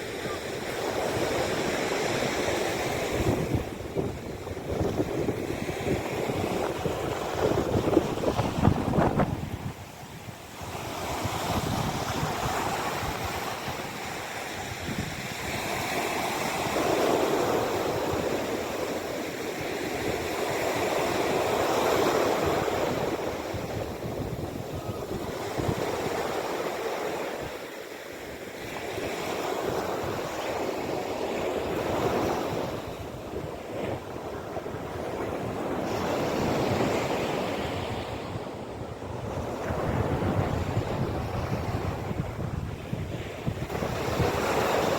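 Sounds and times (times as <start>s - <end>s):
sea waves washing onto shore: 0.0s - 44.9s.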